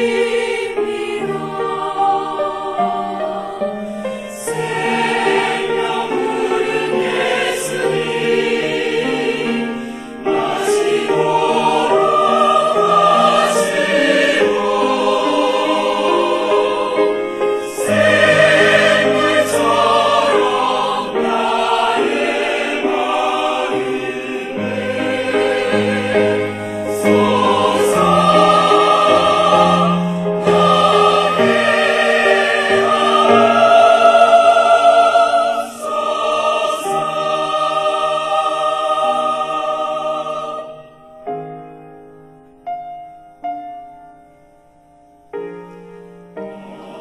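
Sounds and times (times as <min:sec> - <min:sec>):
choir singing a hymn: 0:00.0 - 0:41.7, 0:45.5 - 0:47.0.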